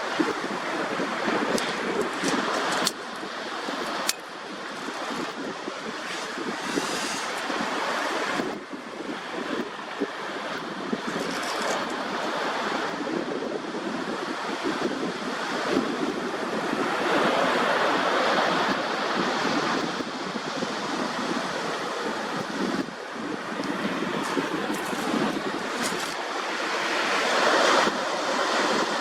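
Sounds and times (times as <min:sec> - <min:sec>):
sea waves lapping at shore: 0:00.0 - 0:29.0.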